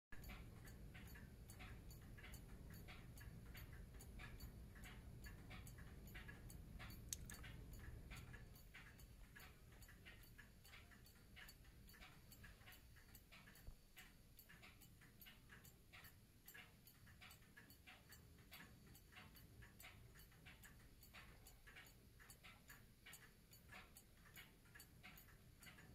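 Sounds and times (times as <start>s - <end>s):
clock escapement ticking: 0.2s - 25.9s.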